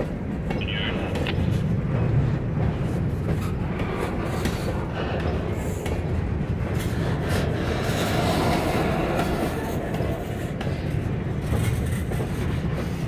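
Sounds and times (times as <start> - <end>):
train wheels rumbling on rail: 0.0 - 13.0
wheels clicking over rail joints: 1.2 - 13.0.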